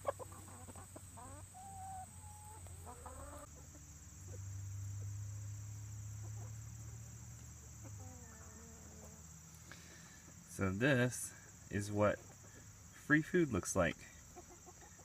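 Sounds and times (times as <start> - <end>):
chickens clucking: 0.0 - 4.5, 6.0 - 15.0.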